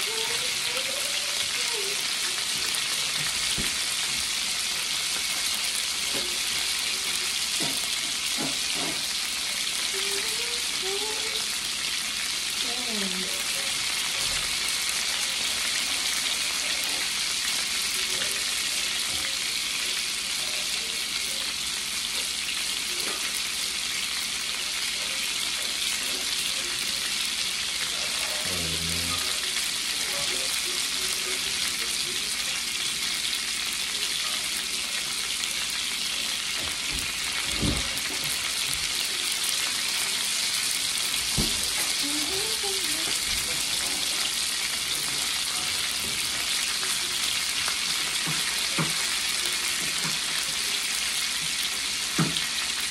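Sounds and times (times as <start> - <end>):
burgers sizzling in a skillet: 0.0 - 52.9.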